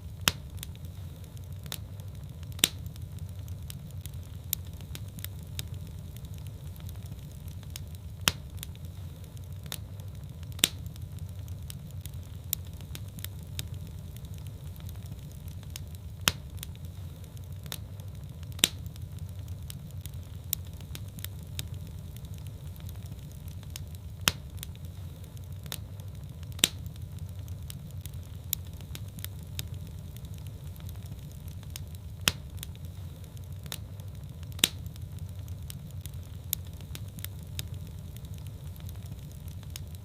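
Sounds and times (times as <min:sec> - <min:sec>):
low rumble of flames: 0:00.0 - 0:40.0
sharp pops and snaps: 0:00.0 - 0:40.0
wood fire crackling: 0:00.0 - 0:40.0.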